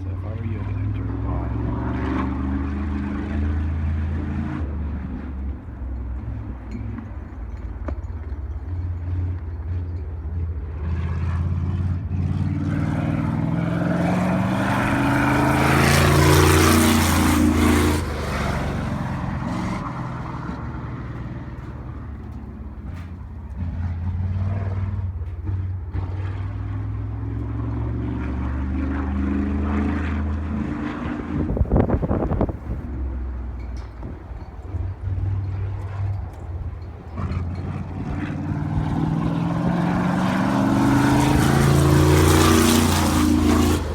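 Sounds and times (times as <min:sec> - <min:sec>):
race car engine passing: 0:00.0 - 0:07.2, 0:10.5 - 0:43.9.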